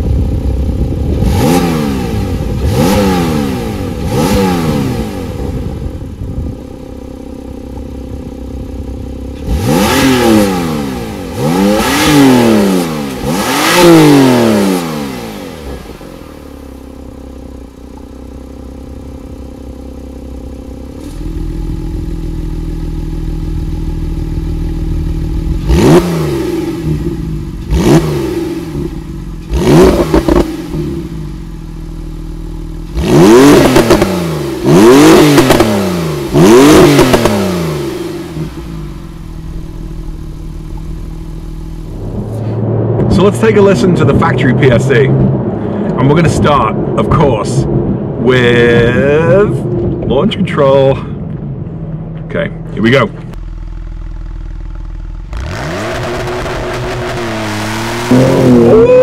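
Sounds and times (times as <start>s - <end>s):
car engine idling: 0.0s - 47.2s, 47.8s - 59.0s
car engine revving: 0.0s - 50.9s, 51.5s - 59.0s.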